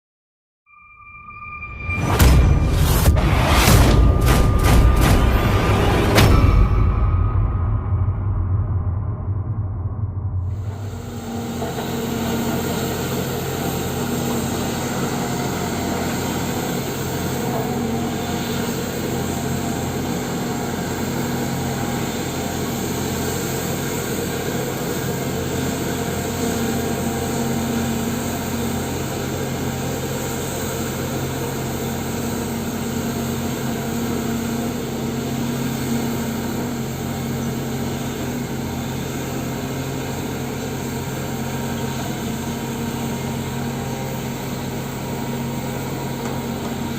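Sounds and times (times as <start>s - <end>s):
excavator diesel engine running: 2.1s - 8.4s, 9.1s - 46.9s.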